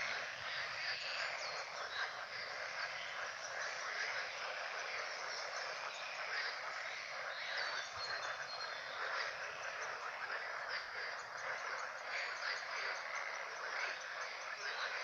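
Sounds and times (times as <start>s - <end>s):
chorus of frogs croaking: 0.0s - 15.0s.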